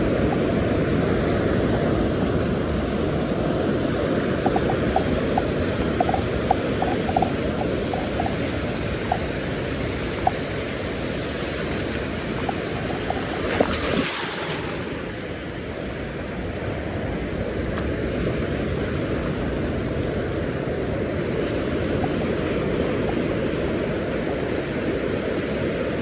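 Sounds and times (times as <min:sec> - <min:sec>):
surf on the beach: 0:00.0 - 0:26.0
wind on microphone: 0:00.0 - 0:26.0.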